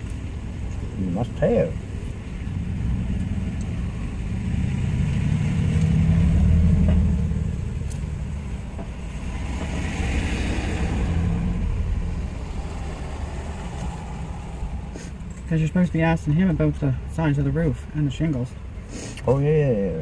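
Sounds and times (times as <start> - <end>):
vehicles driving past: 0.0 - 20.0.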